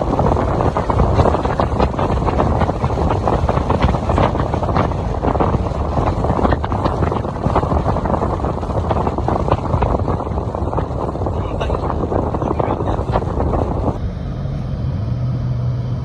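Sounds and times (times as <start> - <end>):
wind buffeting microphone: 0.0 - 14.1
road noise: 0.0 - 16.0.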